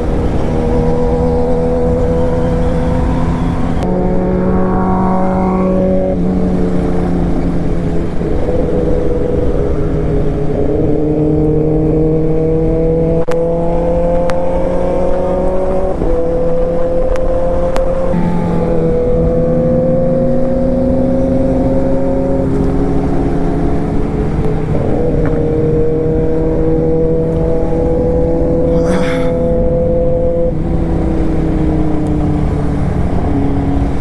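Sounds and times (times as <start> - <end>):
motorcycle engine shifting gears: 0.0 - 34.0
wind rushing over microphone: 0.0 - 34.0.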